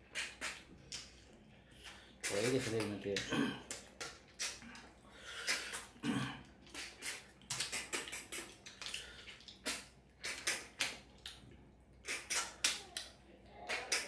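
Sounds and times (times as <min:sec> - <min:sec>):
slurping: 0:00.0 - 0:11.4, 0:12.0 - 0:12.9
wet chewing and lip-smacking: 0:00.0 - 0:14.0.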